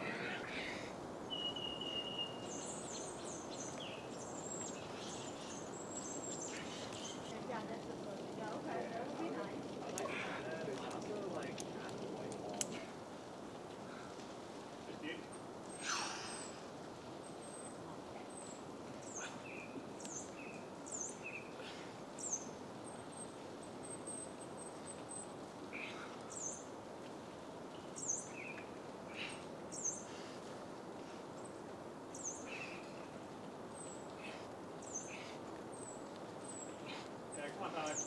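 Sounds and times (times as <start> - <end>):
low outdoor hiss: 0.0 - 38.0
small birds chirping: 0.0 - 38.0.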